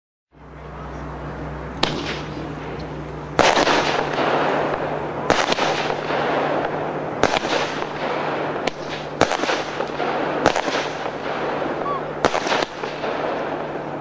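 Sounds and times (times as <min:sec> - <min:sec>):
firework crackle: 0:01.7 - 0:14.0
firework bangs: 0:01.8 - 0:14.0.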